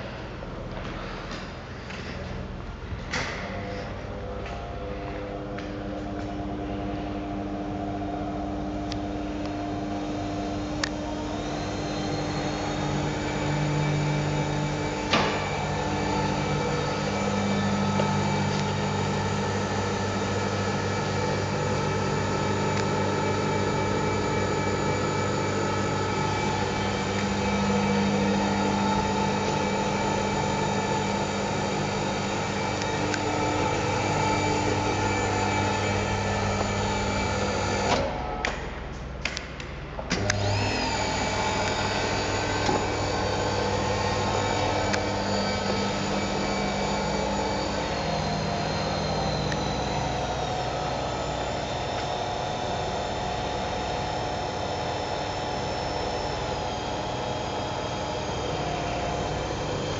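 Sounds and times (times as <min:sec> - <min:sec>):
electric gear motors humming: 0:00.0 - 0:39.4, 0:40.0 - 0:59.9.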